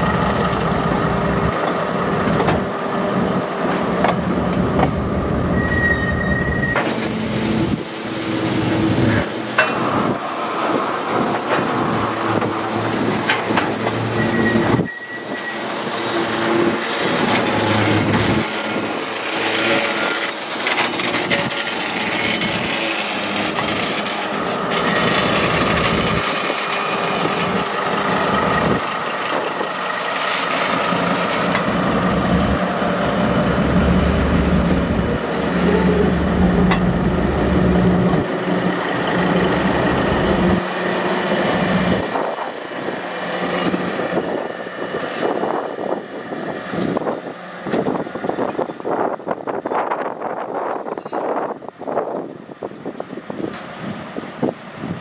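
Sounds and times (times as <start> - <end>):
diesel engine drone: 0.0 - 50.4
train wheel and wagon clatter: 0.0 - 55.0.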